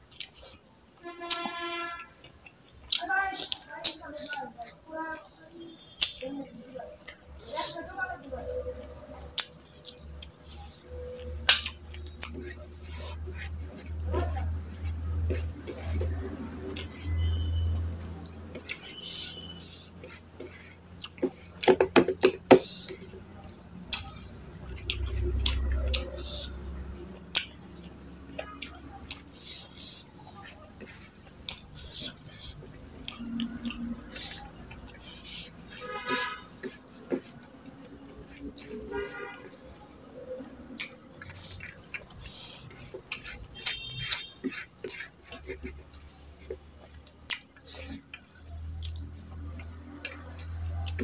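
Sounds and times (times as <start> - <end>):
fingers mixing food on plate: 0.0 - 51.0.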